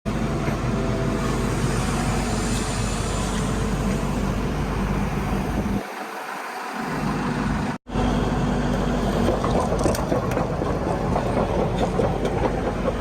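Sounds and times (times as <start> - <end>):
heavy machine engine humming: 0.1 - 13.0.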